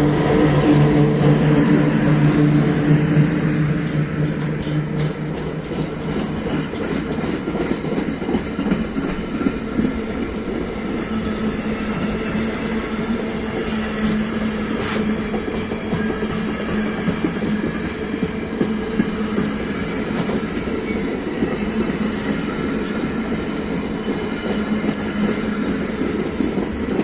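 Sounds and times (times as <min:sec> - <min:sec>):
train running past: 0:00.0 - 0:27.0.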